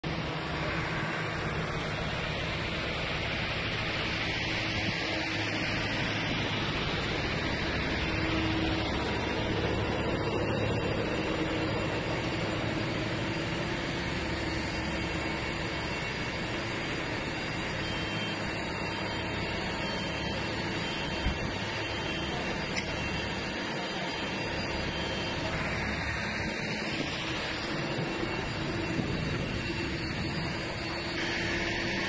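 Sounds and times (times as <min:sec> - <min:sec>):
engine running: 0:00.0 - 0:32.0
low hum: 0:00.0 - 0:32.0.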